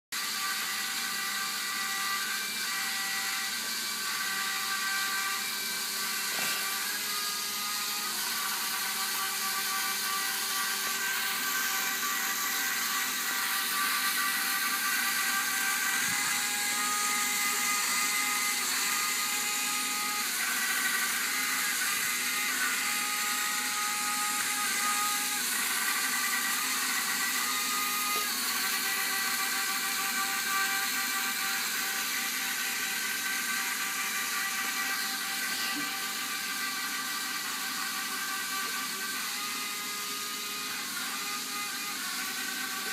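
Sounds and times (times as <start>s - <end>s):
toy robot motors whirring: 0.2s - 42.9s.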